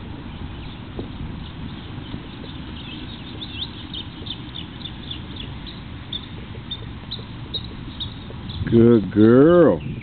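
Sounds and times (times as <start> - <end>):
low background rumble: 0.0 - 10.0
small bird chirping: 0.2 - 8.8.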